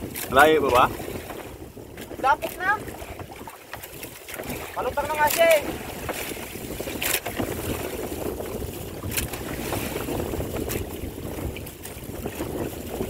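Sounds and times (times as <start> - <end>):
sea washing around boat: 0.0 - 13.0
wind: 0.0 - 13.0.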